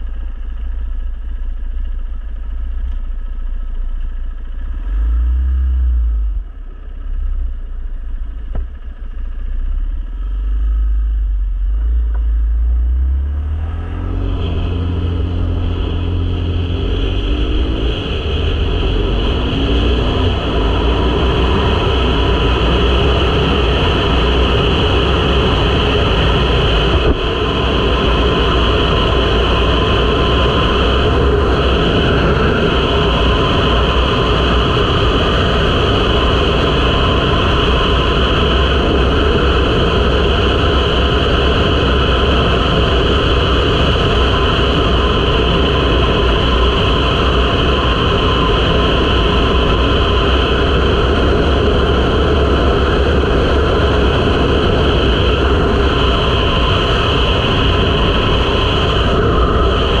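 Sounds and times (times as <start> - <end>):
motorcycle engine running: 0.0 - 60.0
wind rumble on microphone: 0.0 - 60.0.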